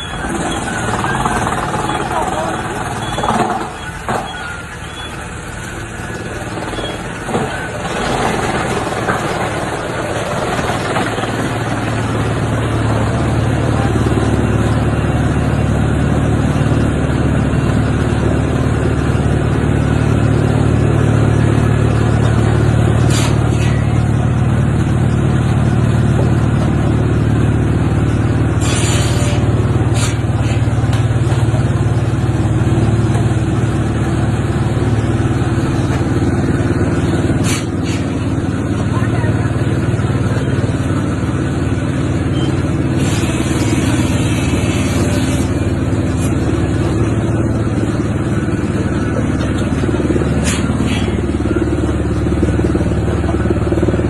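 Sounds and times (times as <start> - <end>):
wood chipper droning: 0.0 - 54.0.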